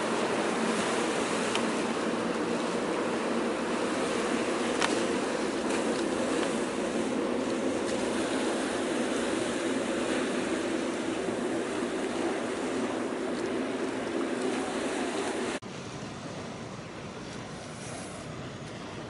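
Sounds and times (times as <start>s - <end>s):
harbour water rushing: 0.0s - 19.0s
wind: 0.0s - 19.0s.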